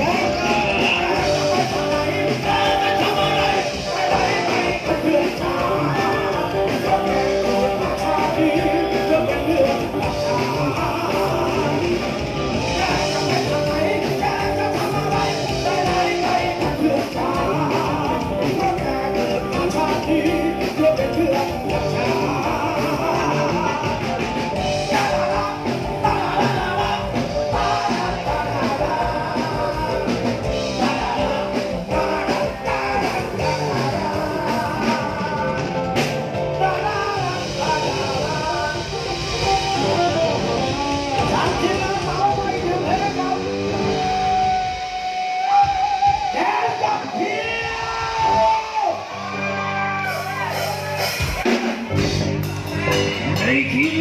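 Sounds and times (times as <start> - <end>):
person singing: 0.0 - 51.6
live band music: 0.0 - 54.0.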